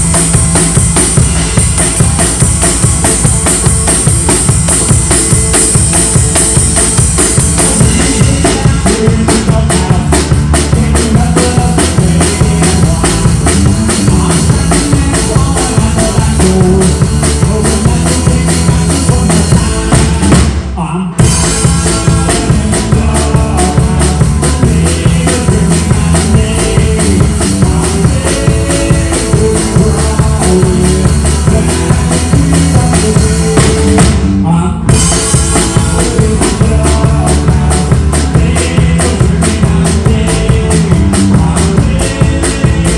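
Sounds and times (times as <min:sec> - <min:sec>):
amplified guitars: 0:00.0 - 0:42.9
drum kit beating: 0:00.0 - 0:42.9.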